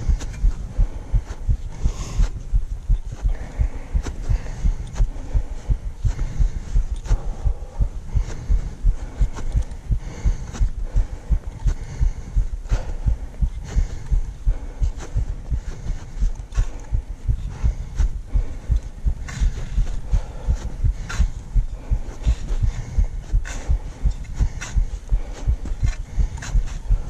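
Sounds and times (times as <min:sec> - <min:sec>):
footsteps walking uphill: 0:00.0 - 0:27.0.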